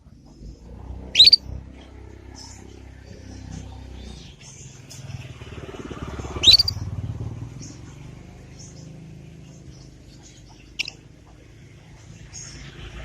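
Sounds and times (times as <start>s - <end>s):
passing motor vehicle rumble: 0.0s - 13.0s
canary twittering chirps: 0.3s - 6.9s, 7.5s - 12.7s.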